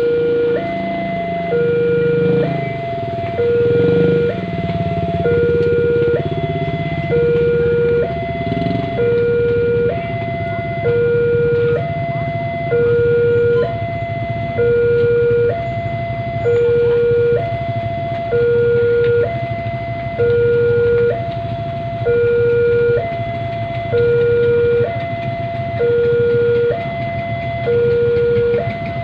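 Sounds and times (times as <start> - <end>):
low vehicle rumble: 0.0 - 29.0
two-tone siren: 0.0 - 29.0.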